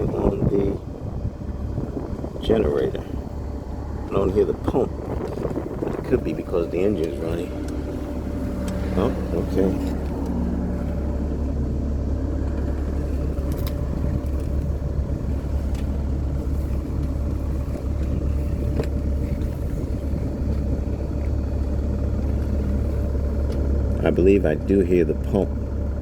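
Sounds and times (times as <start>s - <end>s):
motorhome engine idling: 0.0s - 26.0s.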